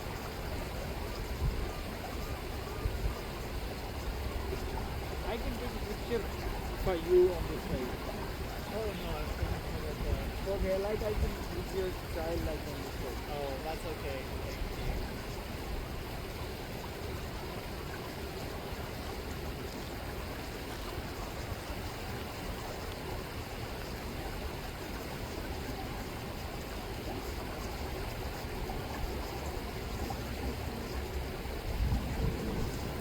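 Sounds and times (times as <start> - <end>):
river water rushing: 3.4 - 33.0.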